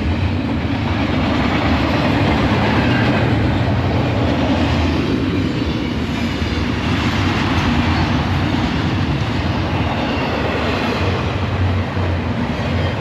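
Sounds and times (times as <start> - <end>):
steel train wheels rolling on rail: 0.0 - 13.0.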